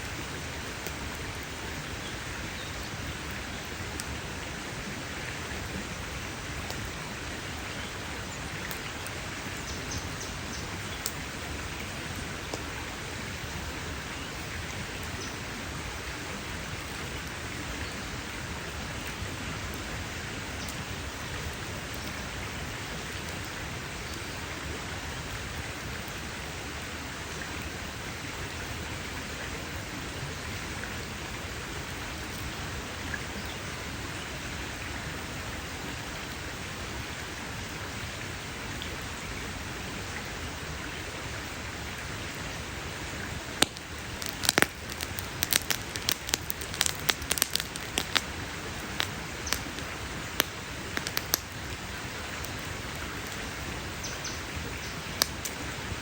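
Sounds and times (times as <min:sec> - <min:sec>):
campfire crackles: 0:00.0 - 0:56.0
steady hiss like rain: 0:00.0 - 0:56.0.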